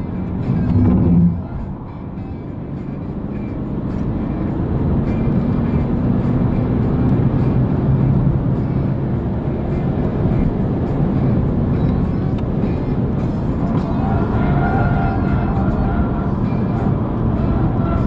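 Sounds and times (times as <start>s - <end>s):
car engine pulling hard: 0.0s - 18.0s
wind and road noise: 0.0s - 18.0s.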